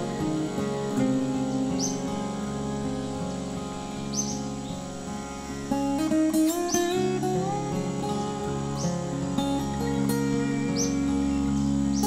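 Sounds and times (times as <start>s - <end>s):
instrumental music with acoustic guitar: 0.0s - 12.0s.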